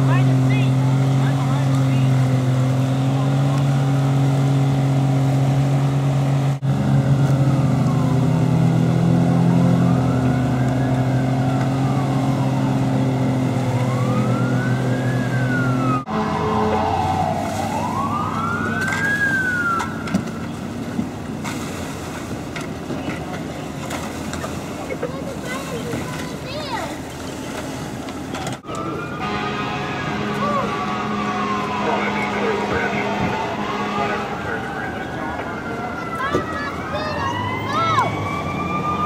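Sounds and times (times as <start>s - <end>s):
emergency siren wailing: 0.0s - 21.4s, 27.8s - 39.0s
boat motor droning: 0.0s - 39.0s.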